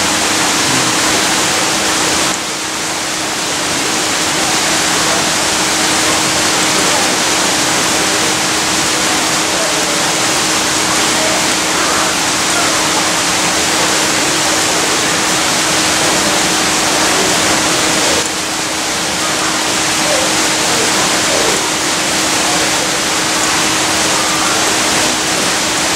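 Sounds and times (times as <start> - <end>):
water falling into pond: 0.0 - 25.9.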